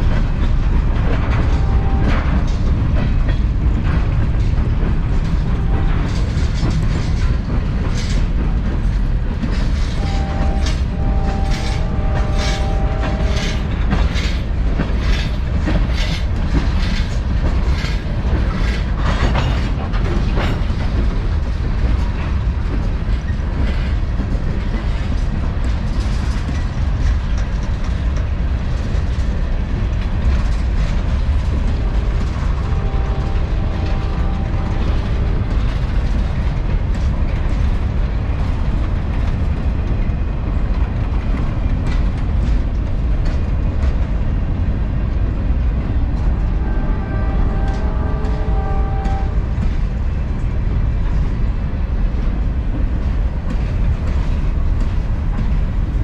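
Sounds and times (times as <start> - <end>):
freight train rumbling past: 0.0 - 56.0
wheels clacking over rail joints: 0.0 - 56.0.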